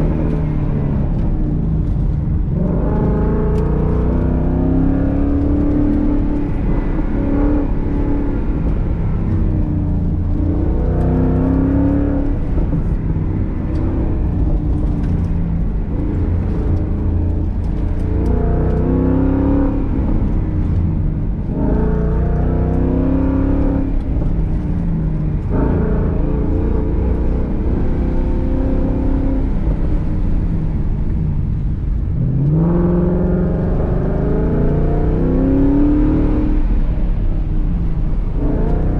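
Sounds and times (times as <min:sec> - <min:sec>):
car engine revving: 0:00.0 - 0:38.9
road and tyre rumble: 0:00.0 - 0:38.9.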